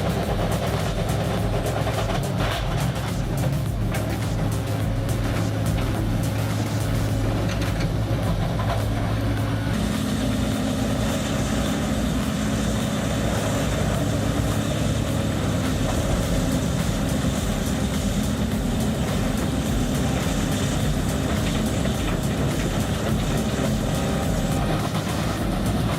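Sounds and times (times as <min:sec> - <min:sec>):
wood grinder engine droning: 0:00.0 - 0:25.9.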